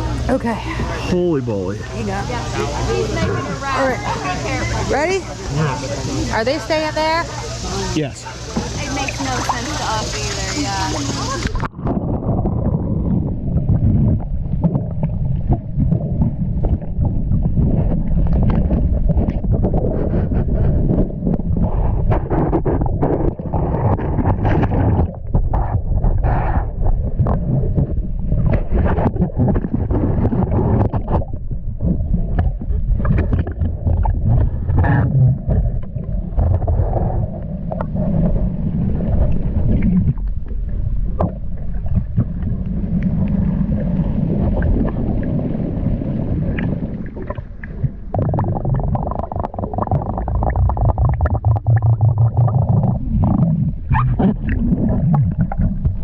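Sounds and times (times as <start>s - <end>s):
muffled water sloshing and gurgling: 0.0s - 56.0s
water splashes: 0.0s - 56.0s.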